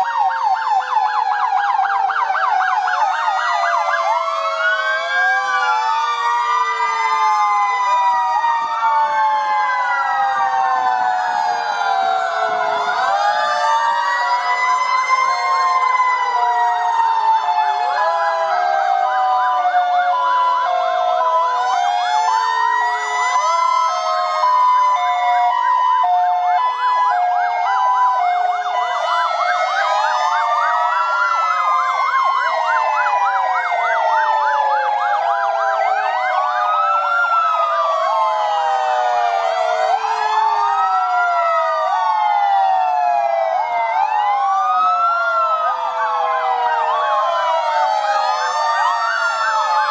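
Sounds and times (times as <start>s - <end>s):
fast siren yelp: 0.0s - 49.9s
wailing sirens: 0.0s - 49.9s
two-note siren: 1.8s - 49.9s.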